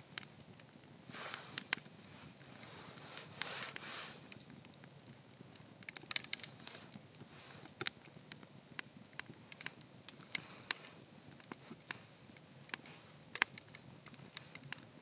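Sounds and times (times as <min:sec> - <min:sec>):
campfire crackling and popping: 0:00.0 - 0:15.0
faint steady hiss: 0:00.0 - 0:15.0.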